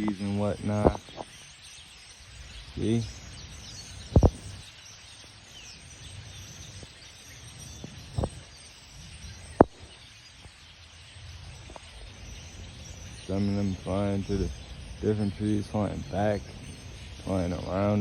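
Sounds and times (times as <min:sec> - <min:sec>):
flock of birds chattering: 0:00.0 - 0:18.0.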